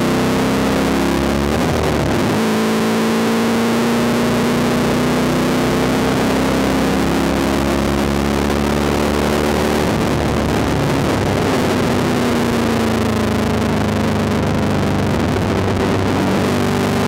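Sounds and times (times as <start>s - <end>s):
race car engine running hard: 0.0s - 17.0s.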